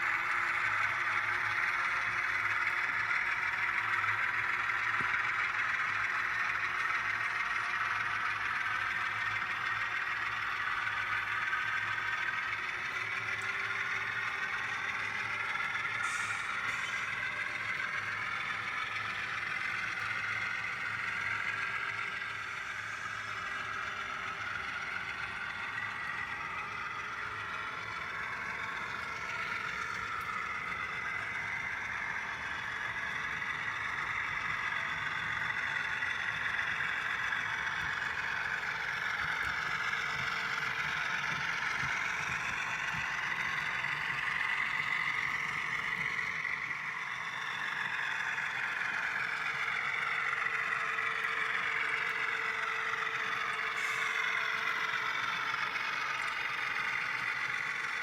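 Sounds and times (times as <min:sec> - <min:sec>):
model locomotive engine sound: 0:00.0 - 0:58.0.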